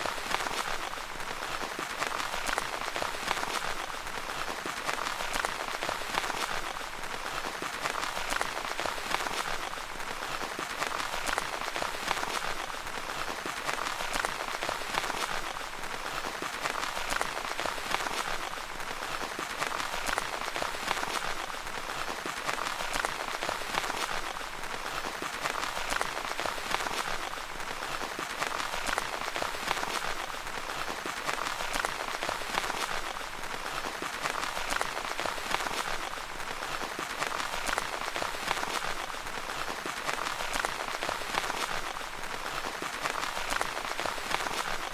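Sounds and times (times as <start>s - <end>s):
rain pattering on tent fabric: 0.0s - 44.9s.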